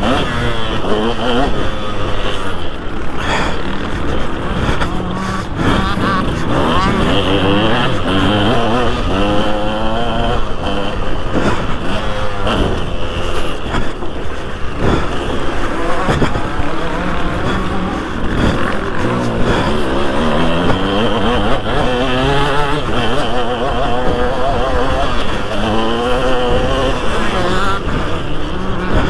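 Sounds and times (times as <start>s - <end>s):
motocross engine revving: 0.0s - 29.0s.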